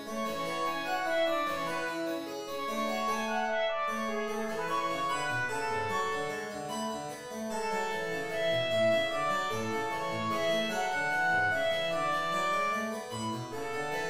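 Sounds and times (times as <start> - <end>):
harpsichord playing slow piece: 0.0 - 14.0.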